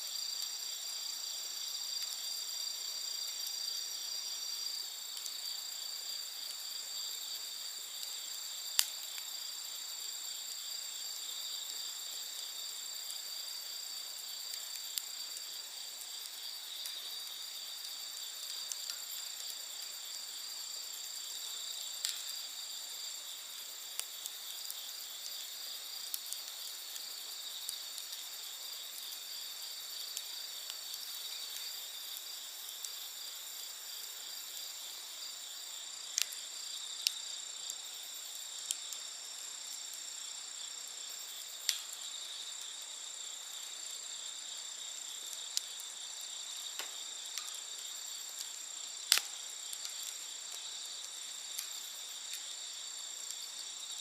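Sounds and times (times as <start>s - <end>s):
campfire wood crackling and popping: 0.0s - 54.0s
crickets trilling: 0.0s - 54.0s.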